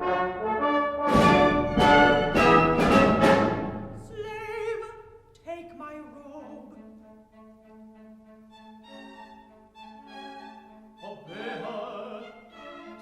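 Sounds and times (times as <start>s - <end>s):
orchestra playing: 0.0s - 4.6s, 6.8s - 13.0s.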